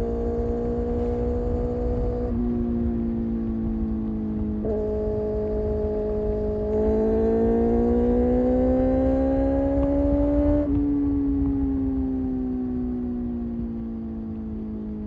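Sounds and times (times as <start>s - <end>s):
motorcycle engine revving: 0.0s - 12.7s
low wind noise rumble: 0.0s - 15.0s.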